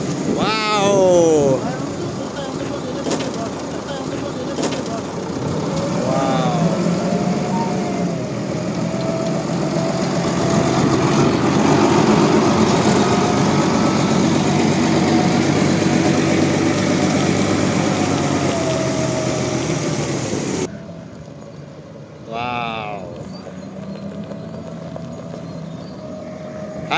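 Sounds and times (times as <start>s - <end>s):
bulldozer engine running: 0.0s - 26.9s.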